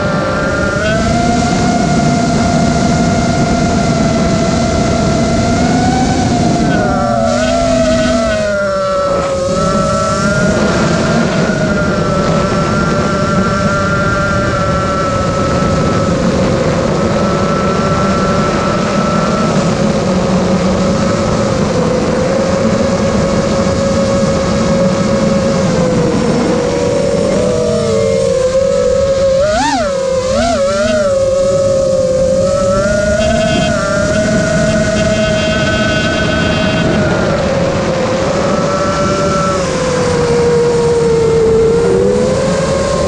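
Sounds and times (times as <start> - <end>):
drone motors whining: 0.0 - 43.0.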